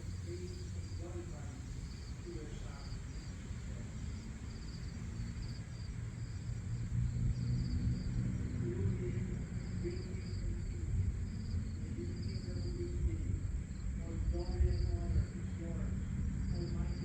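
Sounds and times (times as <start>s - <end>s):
constant low rumble: 0.0s - 17.0s
insects chirring: 0.0s - 17.0s.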